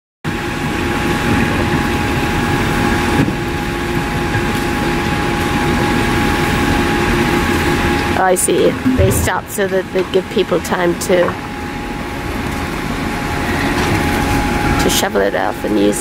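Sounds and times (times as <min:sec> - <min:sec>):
diesel construction equipment running: 0:00.3 - 0:16.0.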